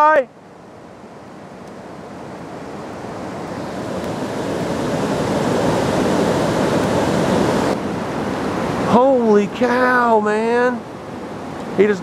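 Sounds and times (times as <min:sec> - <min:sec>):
rushing wind: 0:00.0 - 0:12.0.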